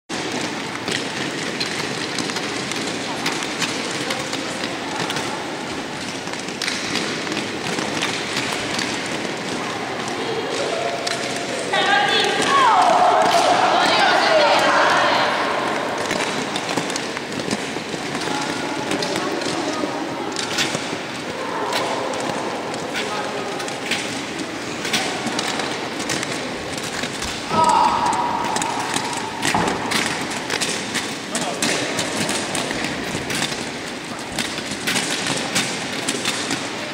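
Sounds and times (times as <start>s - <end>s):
skis clicking and knocking: 0.1s - 36.9s.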